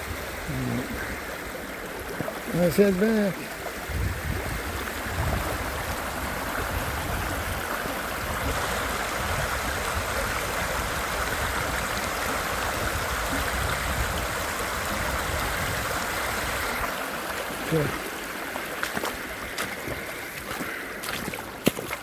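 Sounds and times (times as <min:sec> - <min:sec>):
creek rapids rushing: 0:00.0 - 0:22.0.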